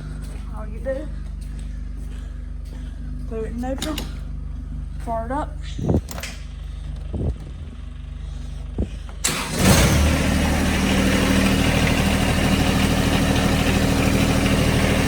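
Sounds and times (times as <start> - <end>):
diesel tractor engine starting and idling: 1.5 - 15.0.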